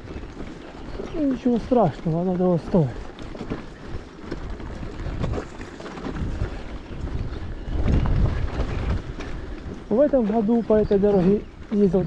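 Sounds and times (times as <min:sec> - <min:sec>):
bicycle knocks and rattles: 0:00.0 - 0:12.0
wind rumbling on microphone: 0:00.0 - 0:12.0.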